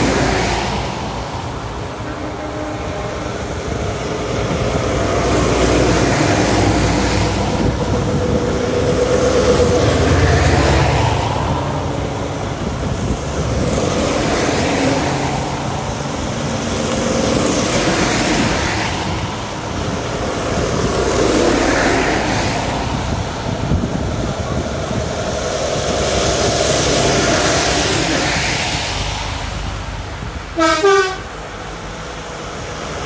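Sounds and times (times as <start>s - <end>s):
lorries driving past: 0.0s - 33.0s.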